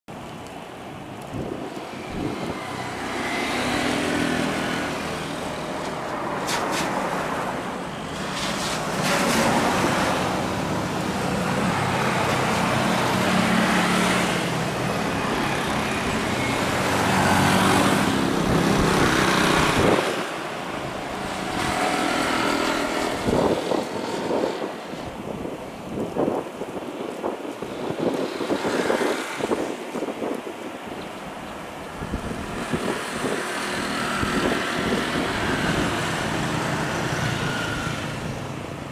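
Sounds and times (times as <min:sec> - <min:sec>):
distant jet engine rumble: 0:00.7 - 0:38.9.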